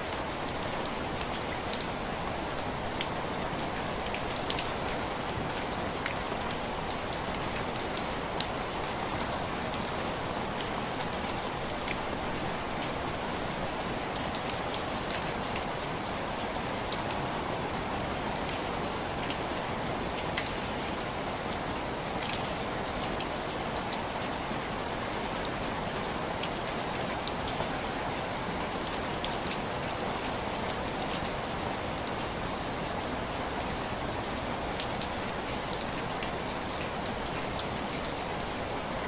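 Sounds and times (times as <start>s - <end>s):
rain pattering on window glass: 0.0s - 39.0s.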